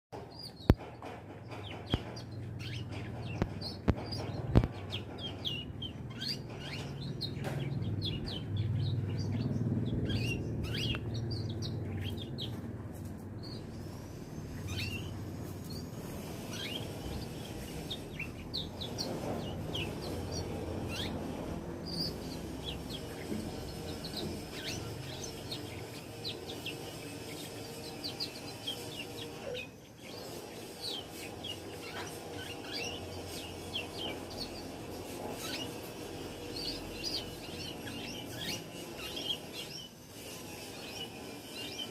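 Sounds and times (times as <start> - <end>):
canary twittering: 1.5 - 41.9.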